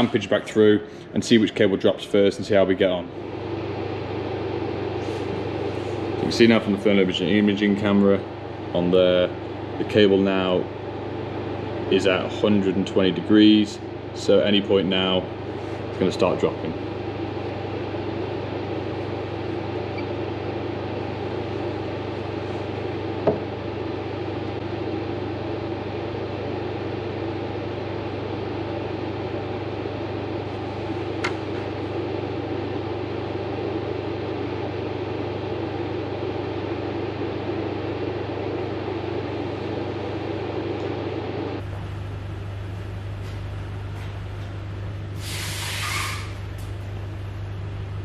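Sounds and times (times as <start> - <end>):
welding machine hum and fan drone: 0.0 - 48.0.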